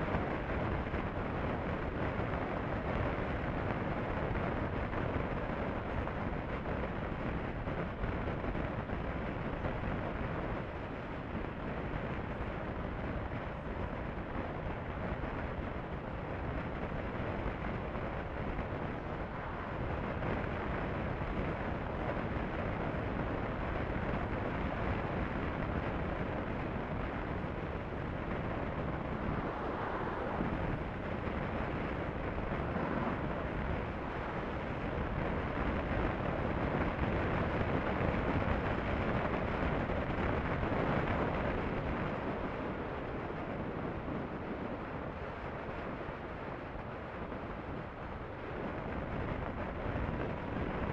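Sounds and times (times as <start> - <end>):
motorcycle engine and tyre drone: 0.0 - 50.9
wind buffeting microphone: 0.0 - 50.9.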